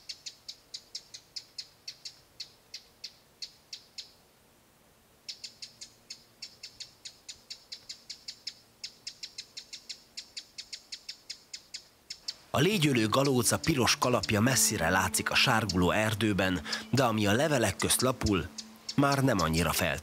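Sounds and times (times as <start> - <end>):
bird calling with sharp ticks: 0.0 - 4.2, 5.2 - 20.0.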